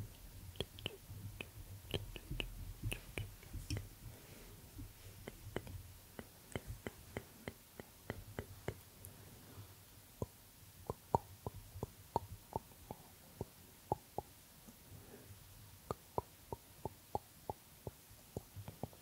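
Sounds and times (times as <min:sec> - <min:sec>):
mouth clicks and lip pops: 0:00.0 - 0:04.0, 0:04.8 - 0:08.9, 0:10.2 - 0:14.8, 0:15.8 - 0:19.0.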